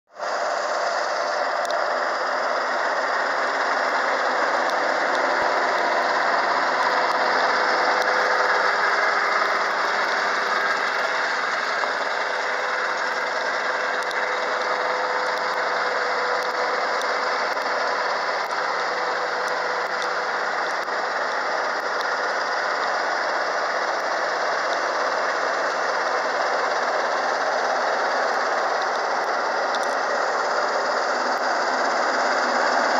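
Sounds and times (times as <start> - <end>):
flail mower: 0.1 - 32.9
tractor diesel engine running: 0.1 - 32.9.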